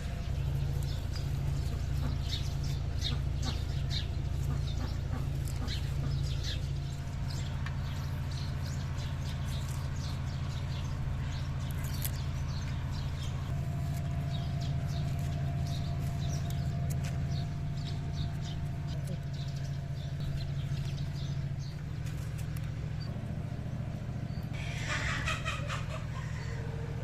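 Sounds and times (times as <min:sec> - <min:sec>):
small birds chirping: 0:00.0 - 0:27.0
steady low rumble: 0:00.0 - 0:27.0.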